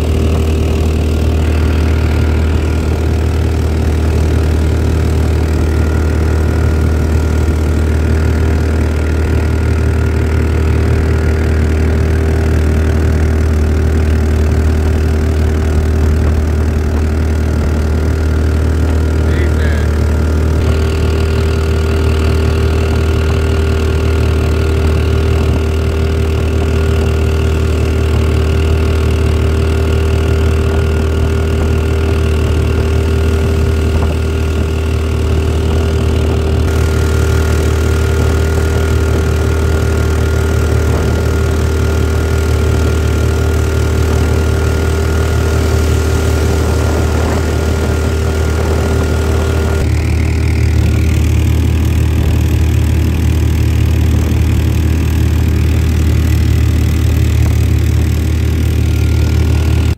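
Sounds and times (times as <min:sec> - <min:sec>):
boat engine low drone: 0:00.0 - 0:59.9
high steady whine: 0:00.0 - 0:59.9.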